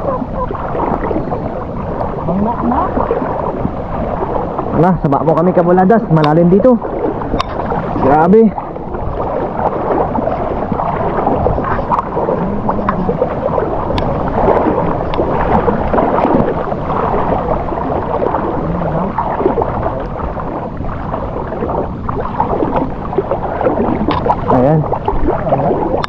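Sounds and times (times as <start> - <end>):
sea water sloshing and splashing: 0.0 - 26.0.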